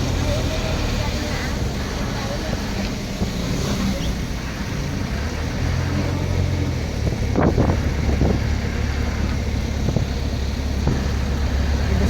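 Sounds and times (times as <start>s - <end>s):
road and wind noise: 0.0s - 12.0s
vehicle engine humming: 0.0s - 12.0s.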